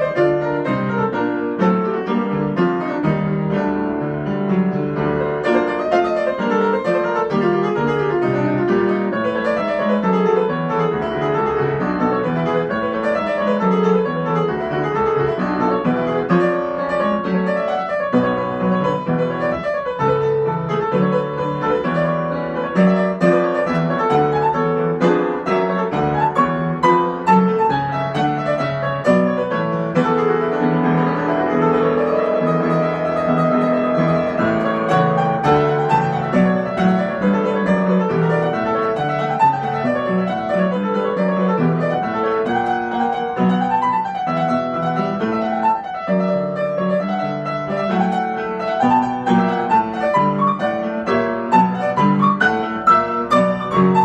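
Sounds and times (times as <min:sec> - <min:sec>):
piano piece: 0:00.0 - 0:54.0.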